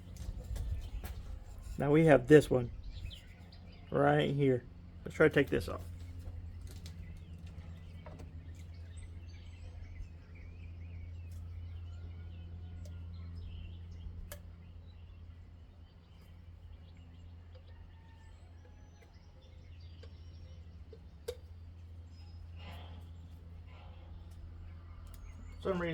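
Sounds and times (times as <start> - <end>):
faint birds chirping: 0.0 - 25.9
steady low hum: 0.0 - 25.9.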